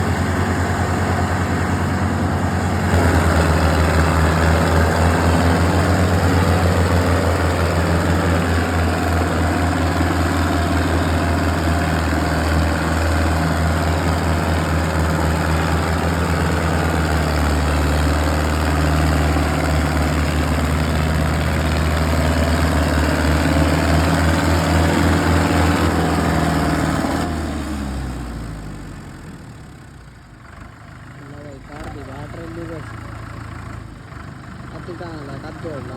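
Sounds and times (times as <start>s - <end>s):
large vehicle engine idling: 0.0s - 35.9s.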